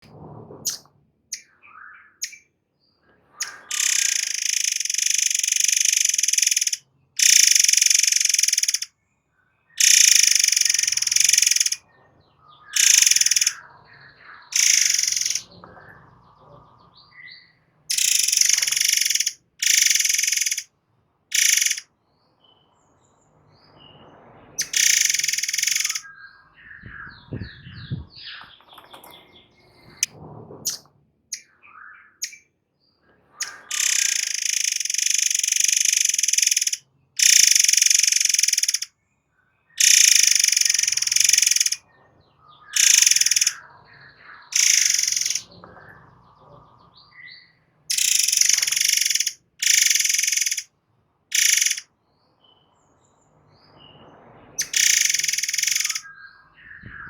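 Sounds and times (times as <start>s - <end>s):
bird chirps and whistled glides: 0.6s - 20.7s, 21.3s - 32.5s, 33.3s - 50.7s, 51.3s - 57.0s
songbird buzzing rattling song: 2.2s - 2.5s, 3.4s - 8.9s, 9.8s - 20.7s, 21.3s - 23.1s, 24.6s - 31.5s, 33.4s - 38.9s, 39.8s - 41.8s, 42.5s - 50.7s, 51.3s - 52.7s, 53.8s - 57.0s.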